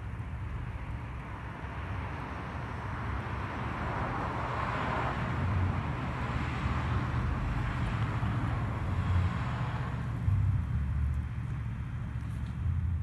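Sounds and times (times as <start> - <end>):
car tyre hiss passing: 1.4 - 13.0.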